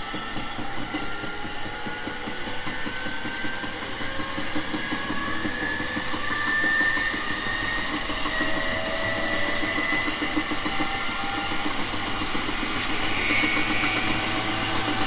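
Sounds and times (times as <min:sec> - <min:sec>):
train wheels rumbling on rails: 0:00.0 - 0:15.0
traction motor whine: 0:00.1 - 0:15.0.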